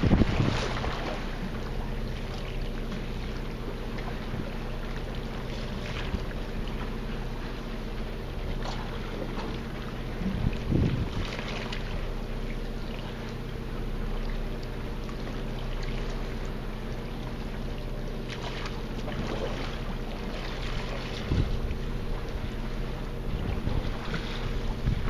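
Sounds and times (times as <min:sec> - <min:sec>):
hiss of wind and water: 0:00.0 - 0:25.0
low hum of boat machinery: 0:00.0 - 0:25.0.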